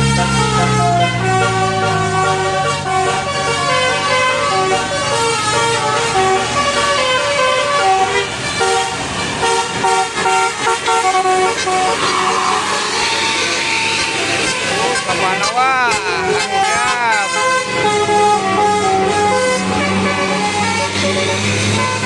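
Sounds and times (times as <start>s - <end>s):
multi-tone air horn playing a tune: 0.0s - 22.0s.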